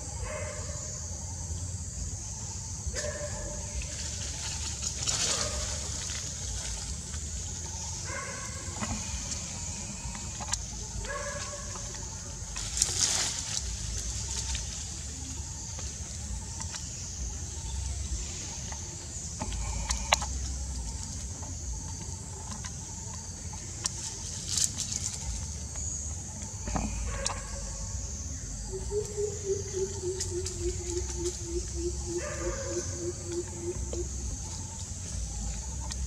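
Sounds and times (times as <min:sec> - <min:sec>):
high insect drone: 0:00.0 - 0:36.0
crackles of leaves or branches: 0:03.0 - 0:36.0.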